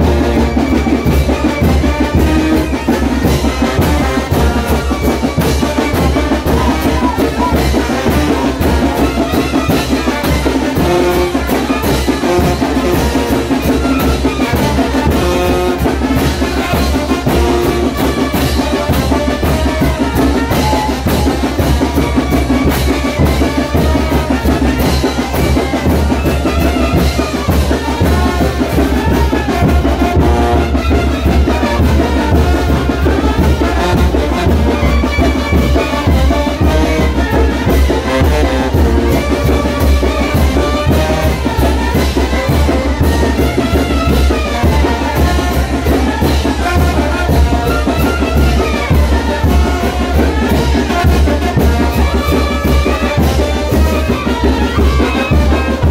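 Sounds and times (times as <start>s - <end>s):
brass band playing: 0.0s - 55.9s
steady drum beat: 0.0s - 55.9s
trumpets: 0.0s - 55.9s.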